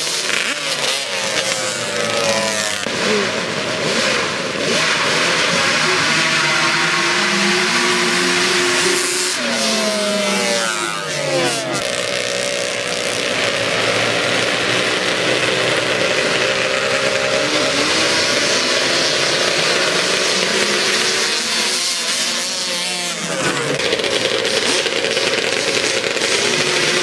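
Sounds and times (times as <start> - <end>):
atv engines revving: 0.0 - 27.0.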